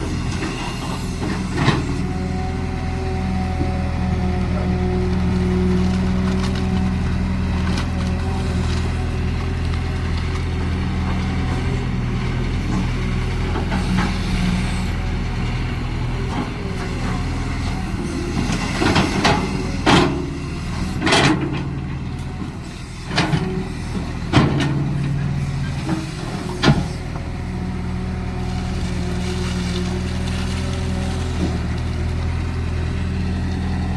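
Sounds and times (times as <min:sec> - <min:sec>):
excavator diesel engine: 0:00.0 - 0:33.9.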